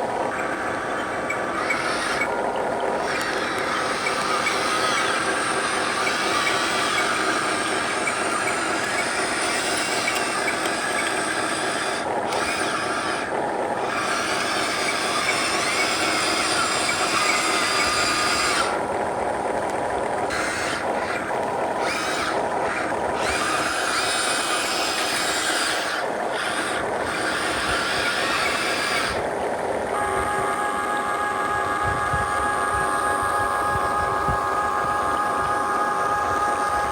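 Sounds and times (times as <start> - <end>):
electric motor and gearbox whining: 0.0 - 36.9.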